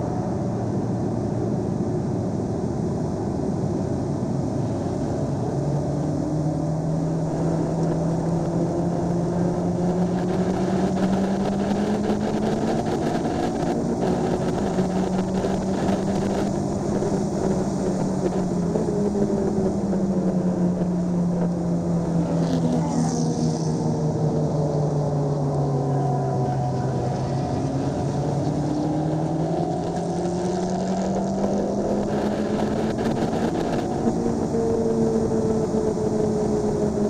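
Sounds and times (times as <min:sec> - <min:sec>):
wind and road noise: 0:00.0 - 0:37.0
car engine accelerating: 0:04.2 - 0:37.0.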